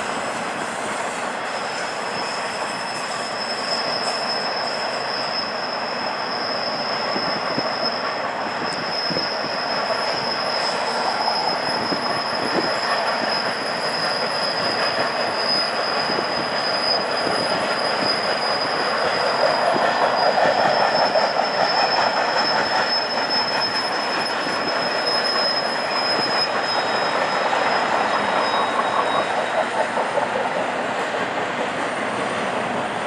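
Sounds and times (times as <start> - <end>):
high wheel squeal: 0.0 - 33.0
wheels rumbling on rail: 0.0 - 33.0.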